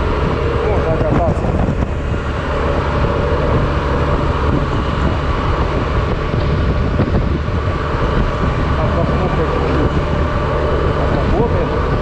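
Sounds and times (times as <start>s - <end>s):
road noise: 0.0s - 12.0s
scooter engine: 0.0s - 12.0s
wind rush on microphone: 0.0s - 12.0s.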